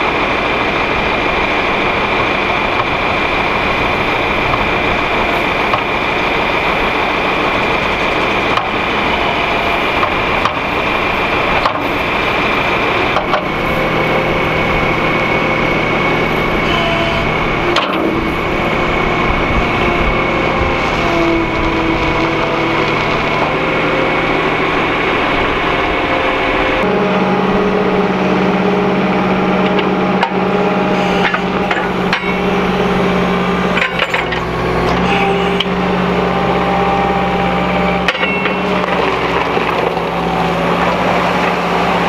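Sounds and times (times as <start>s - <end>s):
diesel tractor engine drone: 0.0s - 42.0s
high whine: 0.0s - 42.0s.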